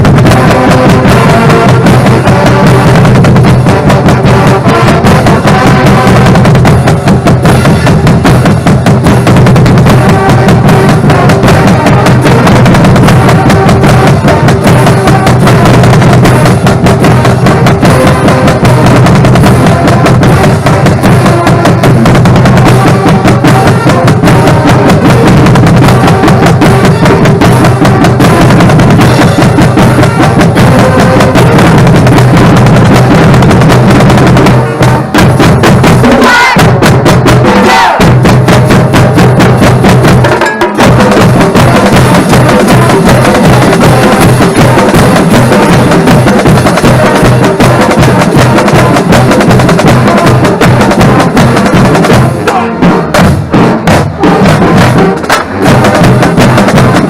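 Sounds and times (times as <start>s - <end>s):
marching drumline playing: 0.0s - 57.0s.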